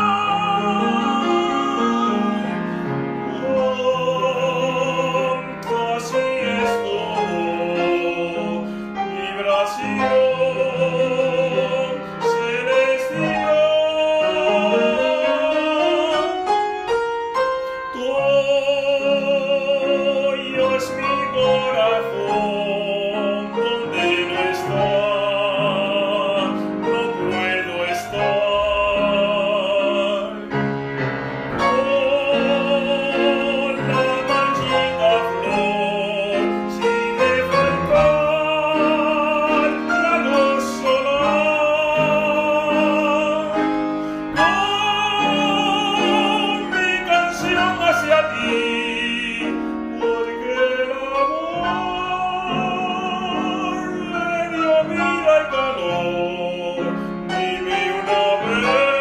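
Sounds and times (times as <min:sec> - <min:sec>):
piano accompaniment: 0:00.0 - 0:59.0
tenor singing operatic aria: 0:00.0 - 0:59.0.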